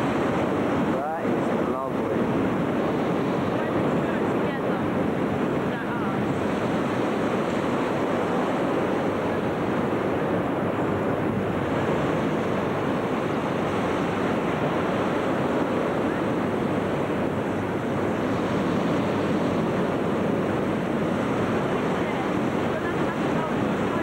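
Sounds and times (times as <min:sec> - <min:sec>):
hot air balloon burners roaring: 0:00.0 - 0:24.0.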